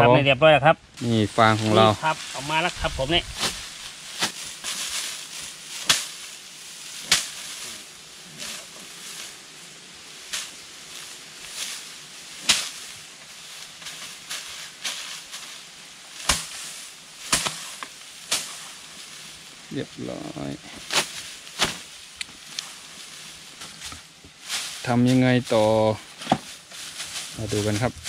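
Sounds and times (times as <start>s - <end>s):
steady hiss: 0.0s - 28.0s
straw rustling and crackling: 1.0s - 28.0s.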